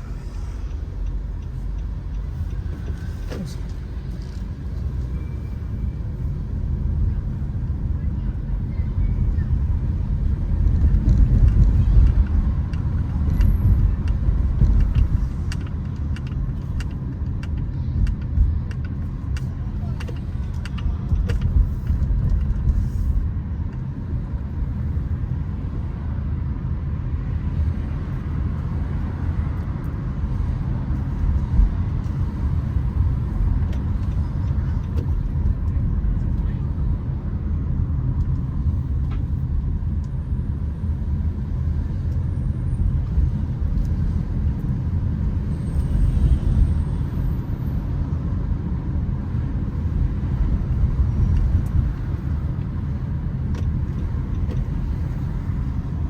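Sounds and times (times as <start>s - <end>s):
car driving road noise: 0.0s - 56.0s.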